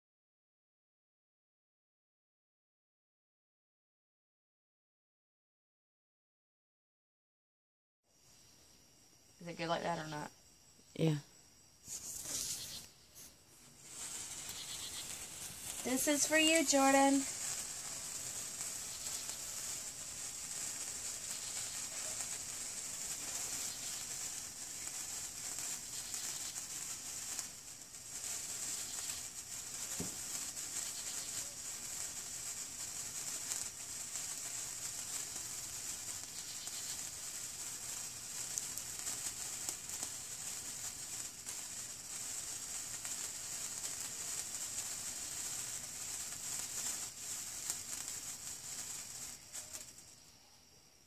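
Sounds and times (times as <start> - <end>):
sparkler crackling hiss: 9.3 - 10.3, 10.9 - 51.0.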